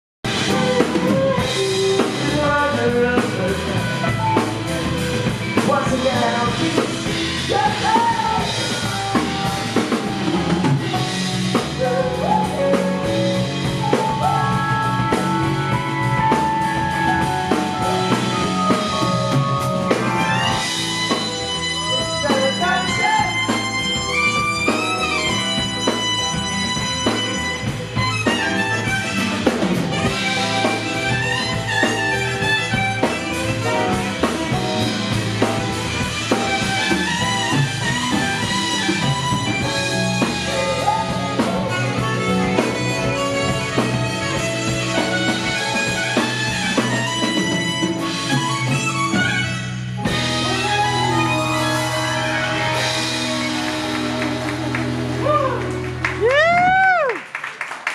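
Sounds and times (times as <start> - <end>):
live band music: 0.2 - 57.9
lead melody with vibrato: 0.3 - 56.2.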